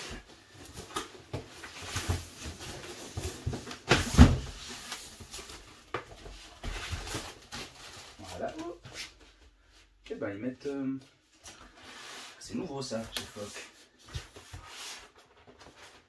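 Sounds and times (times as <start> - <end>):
cardboard rustling and scraping: 0.0 - 9.2, 11.5 - 16.0.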